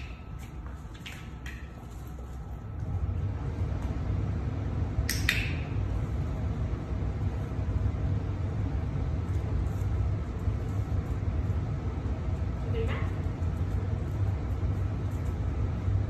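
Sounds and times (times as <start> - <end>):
low room rumble: 0.0 - 16.0.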